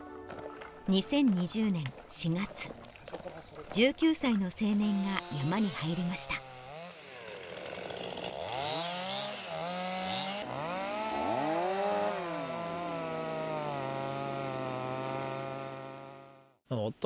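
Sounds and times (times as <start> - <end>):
chainsaws revving: 1.9 - 16.6
chainsaw cutting through log: 2.5 - 16.6.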